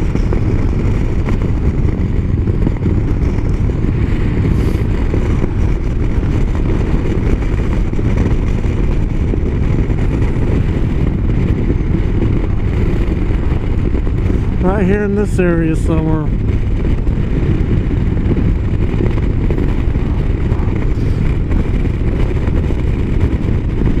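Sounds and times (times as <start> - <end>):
motorcycle engine rumble: 0.0 - 24.0
road noise: 0.0 - 24.0.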